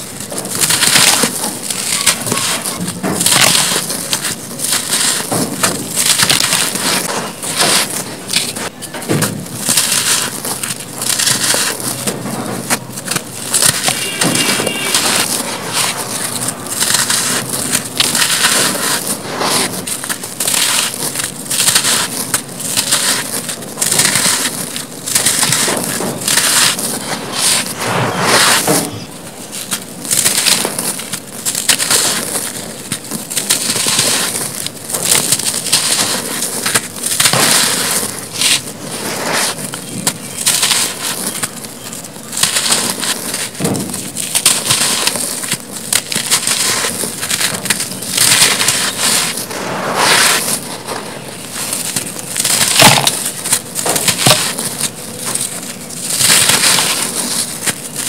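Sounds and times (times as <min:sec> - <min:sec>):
grit falling onto powder: 0:00.0 - 0:58.0
hands crushing sandy blocks: 0:00.0 - 0:58.0.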